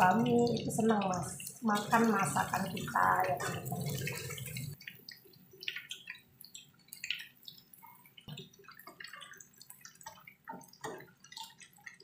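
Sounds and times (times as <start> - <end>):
tofu deep-frying in oil: 0.0 - 12.0.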